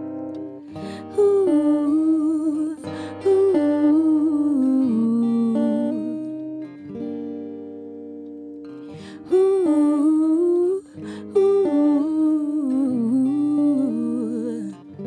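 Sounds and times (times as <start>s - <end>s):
acoustic guitar: 0.0s - 15.0s
woman singing wordless melody: 0.7s - 6.8s, 9.0s - 15.0s.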